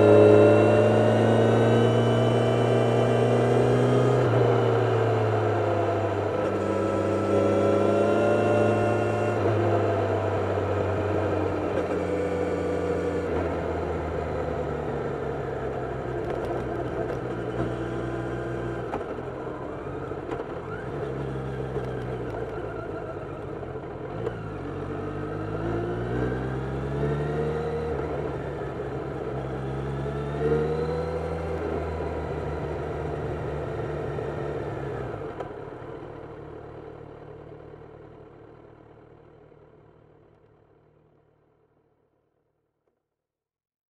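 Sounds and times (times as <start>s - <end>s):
motorcycle engine accelerating: 0.0s - 41.4s.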